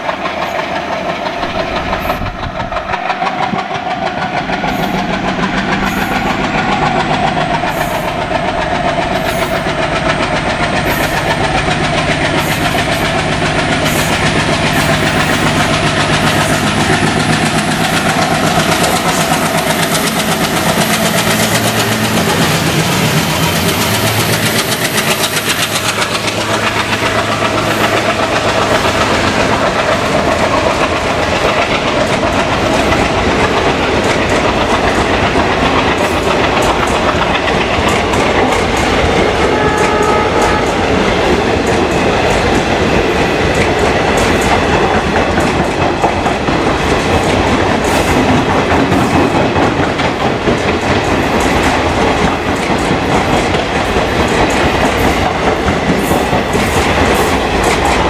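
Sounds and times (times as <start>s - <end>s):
diesel locomotive engine working hard: 0.0s - 58.0s
train wheels clacking over rail joints: 0.0s - 58.0s.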